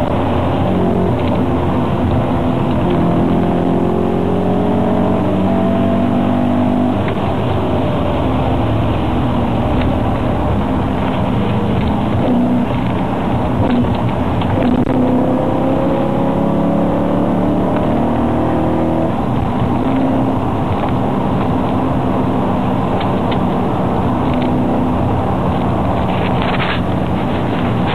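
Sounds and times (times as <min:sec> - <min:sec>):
car engine accelerating: 0:00.0 - 0:27.9
road and wind noise: 0:00.0 - 0:27.9.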